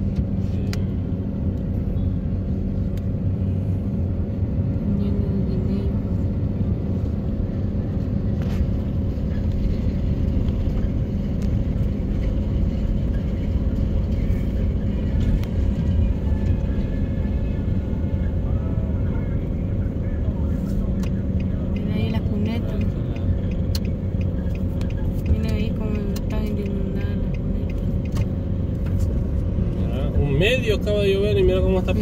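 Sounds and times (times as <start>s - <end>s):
vehicle engine running low: 0.0s - 32.0s.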